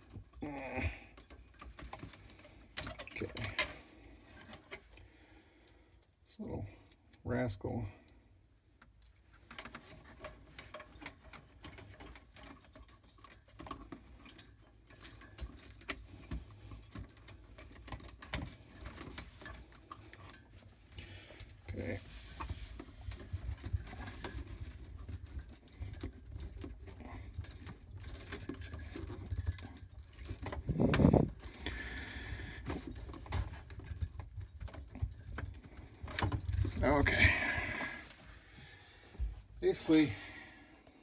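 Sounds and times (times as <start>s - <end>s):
small parts clicking and rattling: 0.0s - 41.0s.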